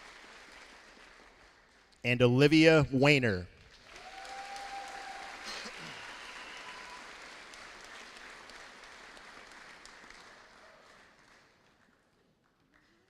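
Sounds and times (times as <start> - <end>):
audience applauding: 0.0 - 1.9, 3.7 - 13.0.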